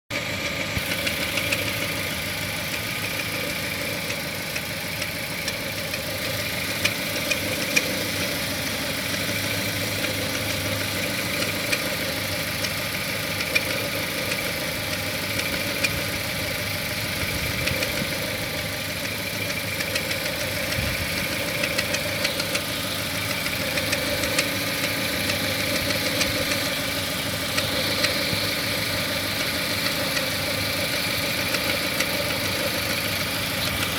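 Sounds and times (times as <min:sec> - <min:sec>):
car engine idling: 0:00.1 - 0:33.9
fine repetitive engine knocking: 0:00.1 - 0:33.9.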